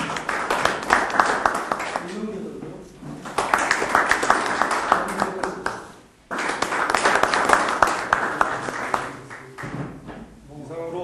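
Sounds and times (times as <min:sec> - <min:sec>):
audience clapping: 0:00.0 - 0:02.3, 0:03.2 - 0:09.8.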